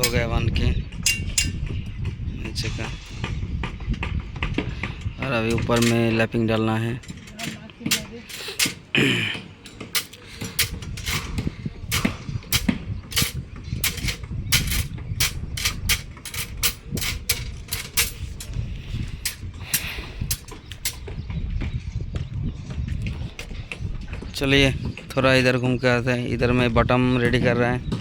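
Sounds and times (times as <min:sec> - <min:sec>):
hammer blows knocking and clanging: 0:00.0 - 0:21.6, 0:22.7 - 0:28.0.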